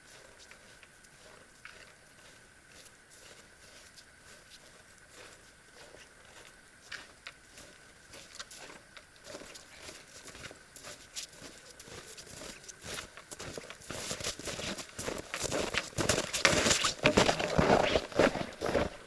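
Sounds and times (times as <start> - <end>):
footsteps crunching in snow: 0.2 - 19.0.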